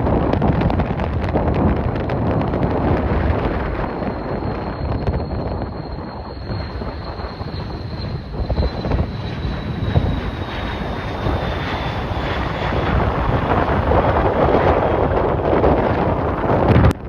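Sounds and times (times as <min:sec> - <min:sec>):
jet engines whining: 0:00.0 - 0:17.0
wind rumbling on microphone: 0:00.0 - 0:17.0.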